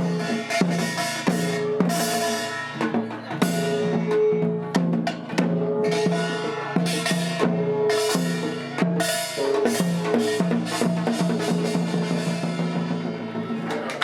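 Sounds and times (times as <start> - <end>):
drums in fast rhythm: 0.0 - 14.0.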